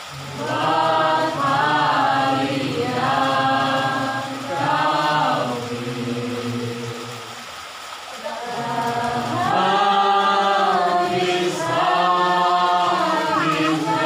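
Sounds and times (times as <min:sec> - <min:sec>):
people singing worship song: 0:00.0 - 0:07.5, 0:08.2 - 0:14.0.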